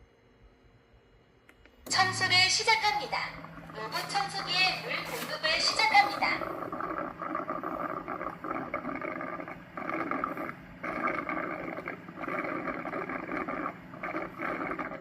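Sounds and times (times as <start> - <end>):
steady pump hum: 0.0 - 15.0.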